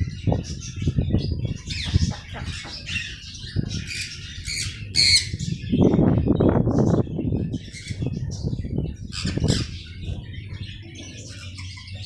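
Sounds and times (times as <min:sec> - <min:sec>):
birds chirping and squawking: 0:00.0 - 0:12.0.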